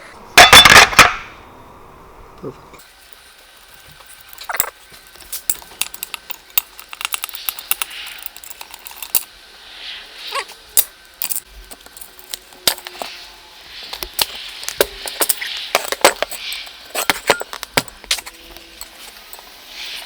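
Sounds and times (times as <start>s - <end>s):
small metal parts clinking: 2.8s - 9.4s, 10.3s - 20.0s.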